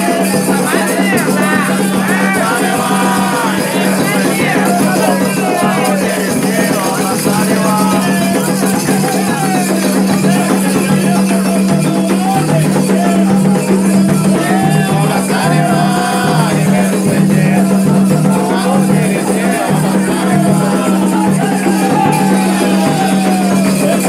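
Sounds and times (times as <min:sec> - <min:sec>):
steady percussion: 0:00.0 - 0:24.0
voices singing: 0:00.0 - 0:24.0.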